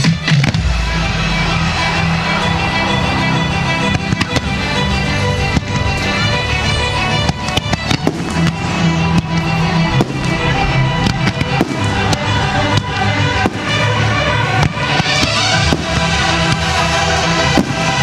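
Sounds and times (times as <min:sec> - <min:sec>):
fireworks bangs and crackles: 0:00.0 - 0:06.6, 0:07.2 - 0:18.0.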